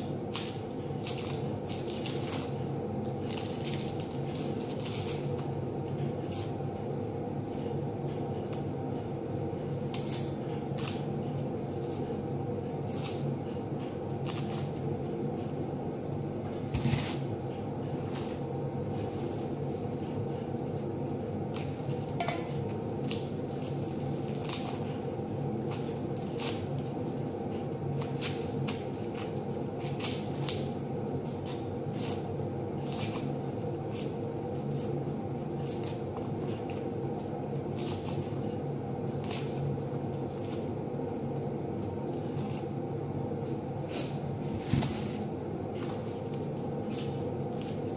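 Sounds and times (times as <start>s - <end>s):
onion skins crackling and rustling: 0.0s - 6.7s, 9.6s - 15.4s, 16.4s - 47.9s
steady low hum: 0.0s - 47.9s.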